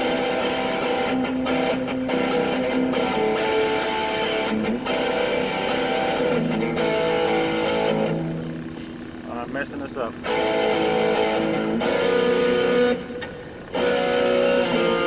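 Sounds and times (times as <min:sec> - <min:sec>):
distorted electric guitar chords: 0:00.0 - 0:15.0.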